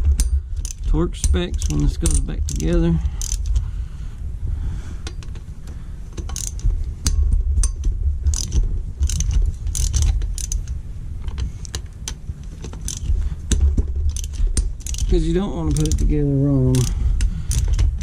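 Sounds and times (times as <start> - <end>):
socket ratchet clicking: 0.0 - 3.7, 6.2 - 16.1, 16.7 - 18.0
steady low rumble: 0.0 - 18.0.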